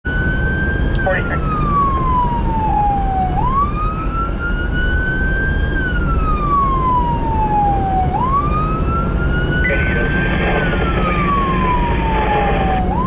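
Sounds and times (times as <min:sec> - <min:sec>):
siren wailing: 0:00.1 - 0:13.0.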